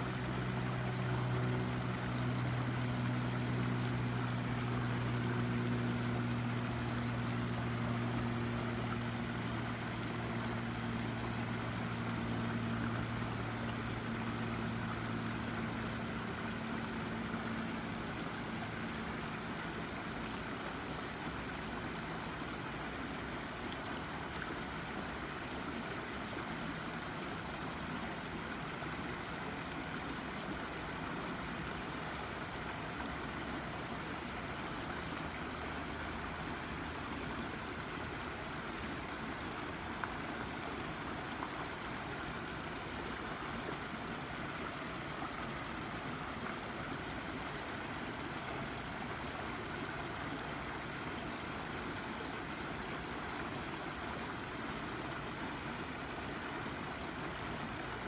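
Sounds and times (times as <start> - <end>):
brook babbling over rock: 0.0 - 58.0
low steady hum: 0.0 - 58.0.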